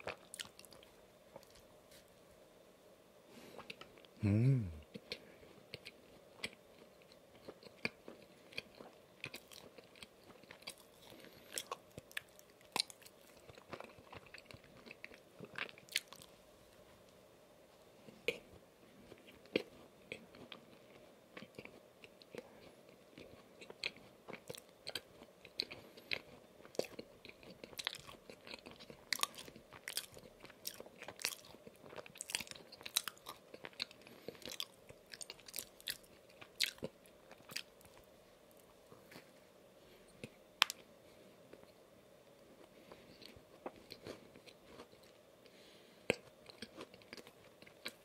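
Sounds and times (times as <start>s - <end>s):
close-miked donut chewing: 0.0s - 2.1s, 4.8s - 17.1s, 18.0s - 48.0s.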